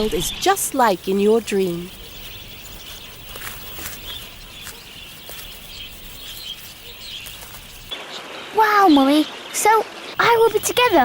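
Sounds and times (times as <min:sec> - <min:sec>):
small birds chirping: 0:00.3 - 0:08.1, 0:08.8 - 0:11.0.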